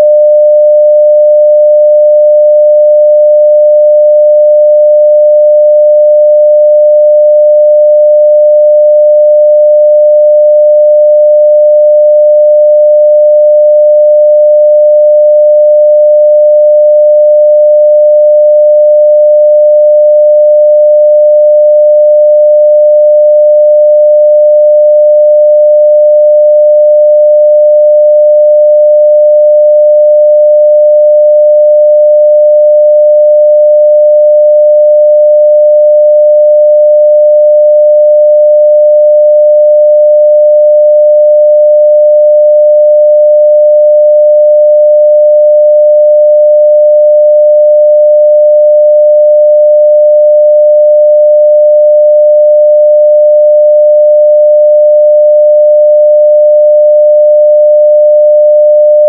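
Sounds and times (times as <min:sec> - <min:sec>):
sine-wave test tone: 0:00.0 - 0:59.0.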